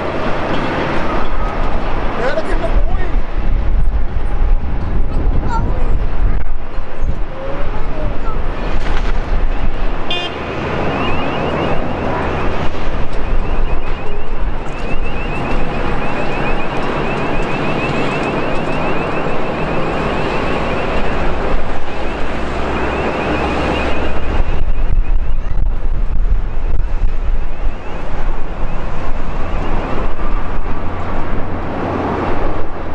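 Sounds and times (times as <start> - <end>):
jet engines roaring: 0.0 - 5.4, 6.0 - 32.9
wind rumble on microphone: 0.0 - 32.9.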